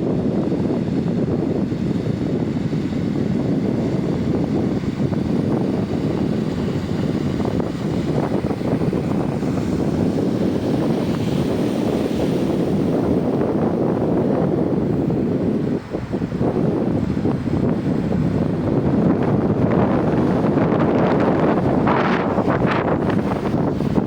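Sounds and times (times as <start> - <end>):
motor barge rumbling: 0.0 - 24.0
wind buffeting microphone: 0.0 - 24.0.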